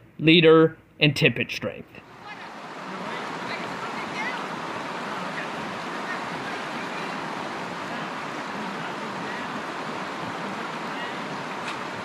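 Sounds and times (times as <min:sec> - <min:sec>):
river rushing over rocks: 0:02.0 - 0:12.0.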